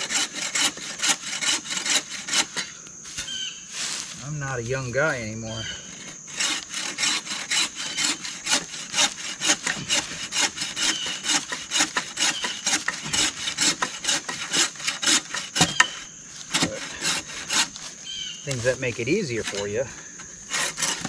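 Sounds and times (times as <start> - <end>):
hand saw cutting wood: 0.0 - 4.6, 5.5 - 21.0.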